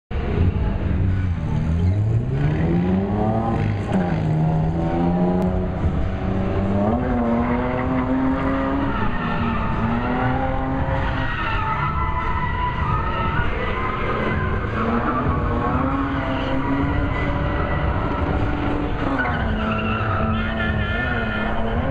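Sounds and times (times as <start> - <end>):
car engine revving hard: 0.2 - 21.9
tires squealing on asphalt: 0.2 - 21.9.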